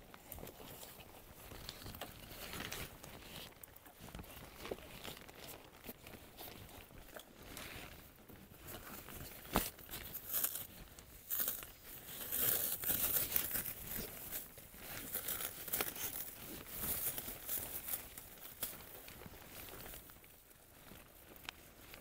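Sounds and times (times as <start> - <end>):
packaging crinkling and tearing: 0.1 - 22.0.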